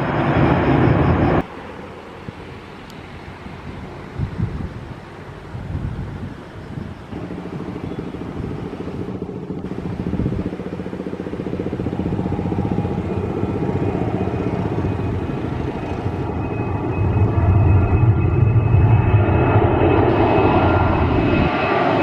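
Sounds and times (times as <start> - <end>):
airliner engines: 0.0 - 22.0
steady engine whine: 0.0 - 22.0.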